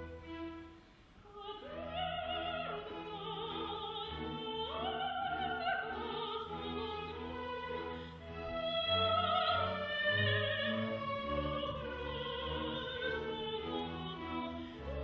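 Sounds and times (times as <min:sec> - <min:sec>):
woman singing opera: 0:01.2 - 0:15.0.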